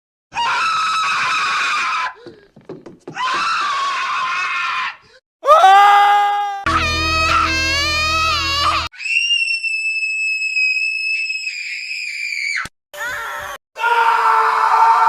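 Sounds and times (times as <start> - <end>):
animated characters screaming: 0.3 - 2.2, 3.2 - 15.0.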